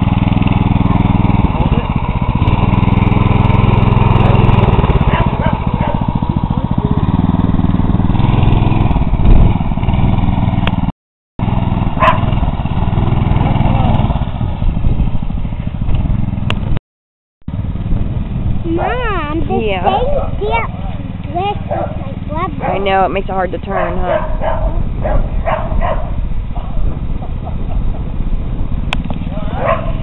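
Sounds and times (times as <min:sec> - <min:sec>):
mini bike engine running: 0:00.0 - 0:16.8, 0:17.5 - 0:30.0.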